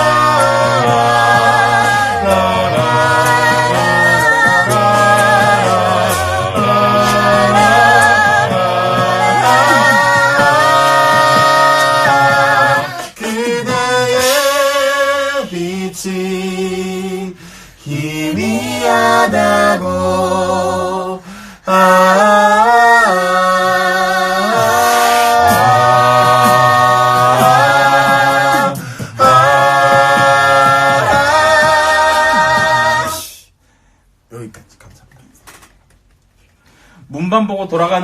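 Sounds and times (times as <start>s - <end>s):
a cappella group singing in harmony: 0.0s - 33.6s.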